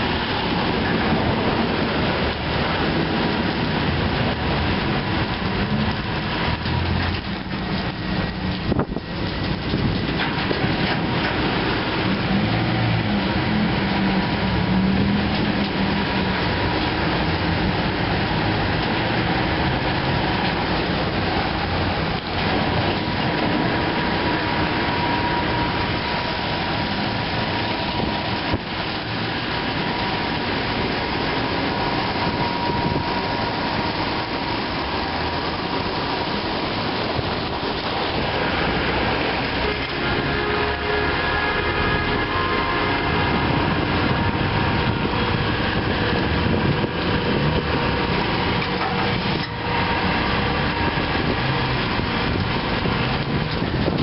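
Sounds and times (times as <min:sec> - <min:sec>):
car wash machine rushing: 0:00.0 - 0:54.0.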